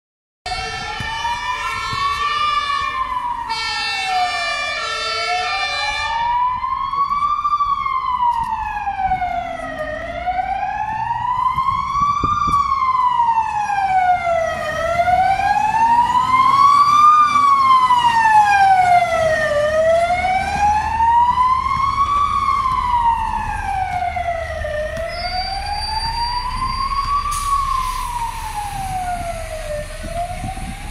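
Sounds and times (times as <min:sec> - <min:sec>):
fire truck siren wailing: 0:00.5 - 0:30.9
truck engine rumble: 0:00.5 - 0:30.9.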